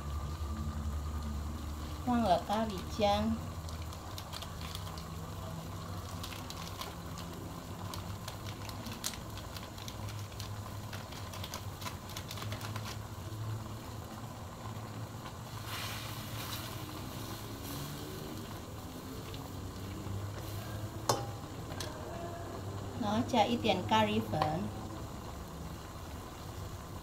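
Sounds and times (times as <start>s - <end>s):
steady low hum: 0.0s - 9.9s, 10.5s - 27.0s
food sizzling hiss: 0.0s - 27.0s.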